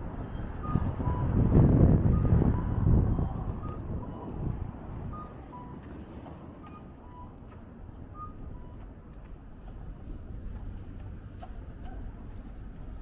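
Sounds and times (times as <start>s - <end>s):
traffic rumble: 0.0s - 13.0s
wind: 0.0s - 13.0s.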